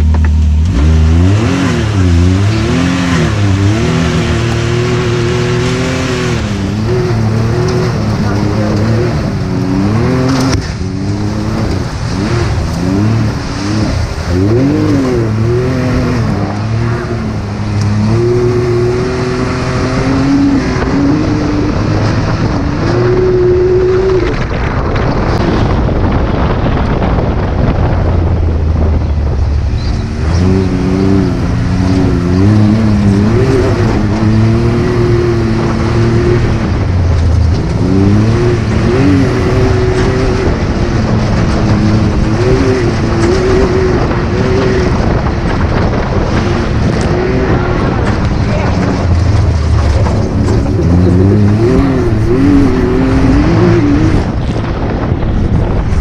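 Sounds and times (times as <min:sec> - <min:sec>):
engine revving: 0:00.0 - 0:27.0, 0:27.6 - 0:56.0.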